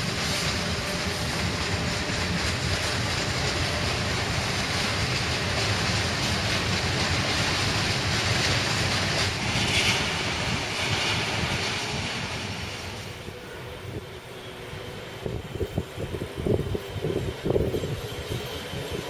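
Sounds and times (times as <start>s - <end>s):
freight wagons rolling on rails: 0.0s - 19.0s.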